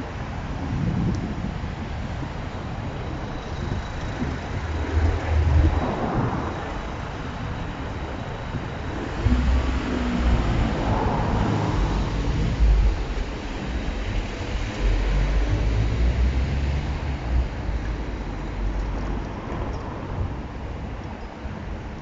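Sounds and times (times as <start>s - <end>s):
wind rumbling on microphone: 0.0s - 22.0s
road traffic passing: 1.2s - 22.0s.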